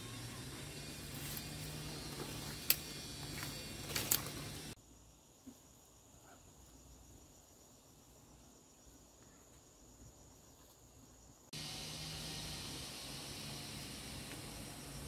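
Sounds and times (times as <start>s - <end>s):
steady hiss: 0.0s - 10.5s, 11.2s - 15.0s
insect trill: 0.0s - 15.0s.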